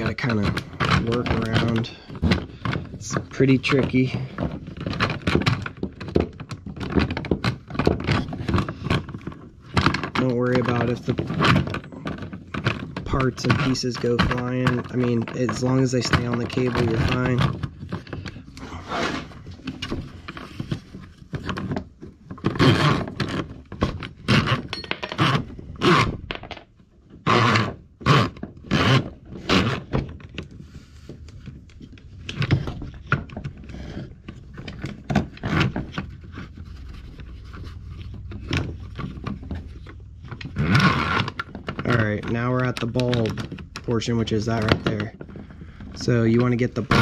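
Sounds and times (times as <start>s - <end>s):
drain cable scraping and rattling: 0.0s - 26.3s, 27.0s - 47.0s.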